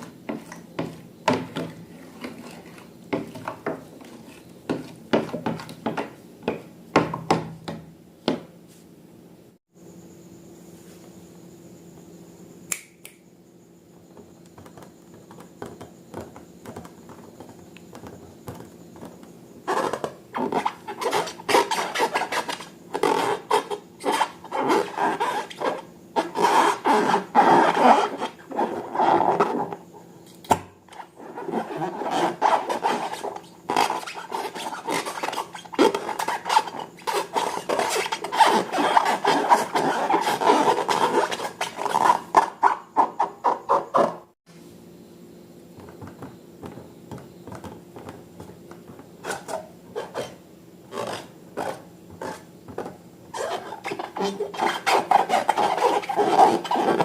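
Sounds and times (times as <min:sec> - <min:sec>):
faint hum: 0:07.6 - 0:42.4, 0:44.2 - 0:57.0.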